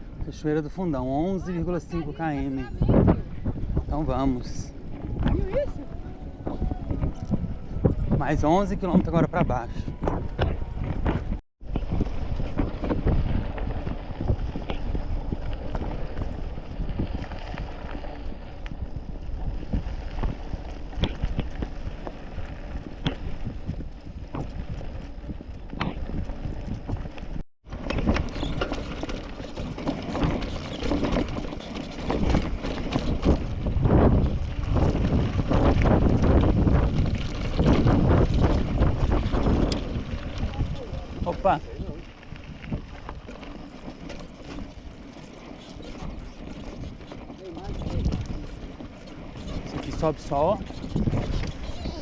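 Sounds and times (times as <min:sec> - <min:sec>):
bike tyre noise: 0:00.0 - 0:52.0
wind buffeting microphone: 0:00.0 - 0:52.0
bike rattling and knocking: 0:06.4 - 0:52.0.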